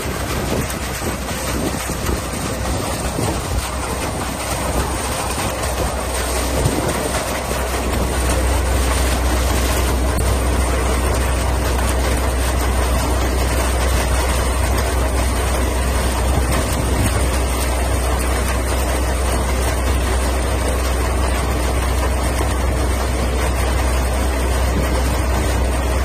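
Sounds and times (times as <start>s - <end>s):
rushing mechanical noise: 0.0s - 26.0s
tractor engine drone: 0.0s - 26.0s.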